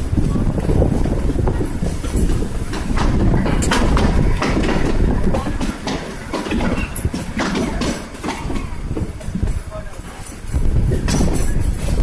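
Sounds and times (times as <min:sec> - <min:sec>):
train rumbling on track: 0:00.0 - 0:12.0
wheels clicking on rails: 0:00.0 - 0:12.0.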